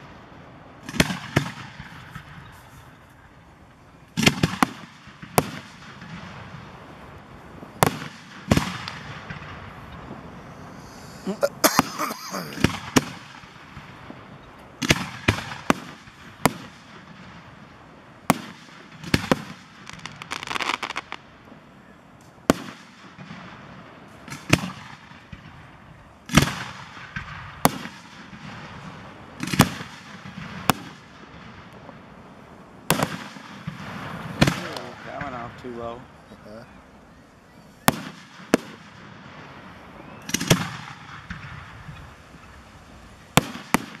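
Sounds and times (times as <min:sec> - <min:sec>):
firework bangs: 0:00.0 - 0:37.0, 0:37.6 - 0:44.0
firework crackling: 0:00.0 - 0:44.0.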